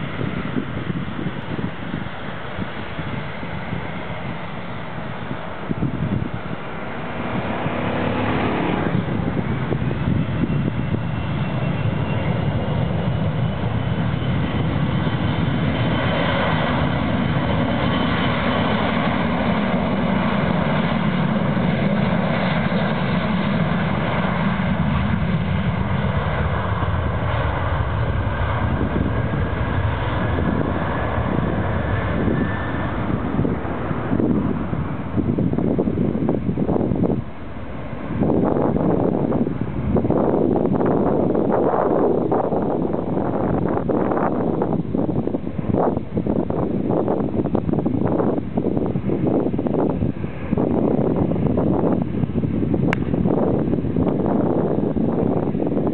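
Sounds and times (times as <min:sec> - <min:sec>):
jet engines spooling up: 0:00.0 - 0:55.9
rising engine whine: 0:00.0 - 0:55.9.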